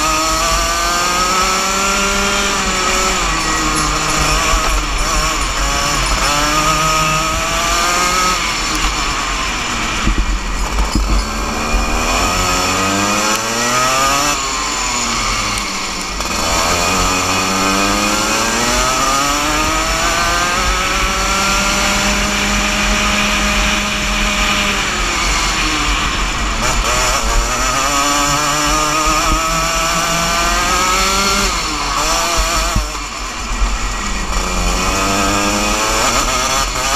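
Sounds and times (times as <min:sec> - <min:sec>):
kart engine revving: 0:00.0 - 0:36.9.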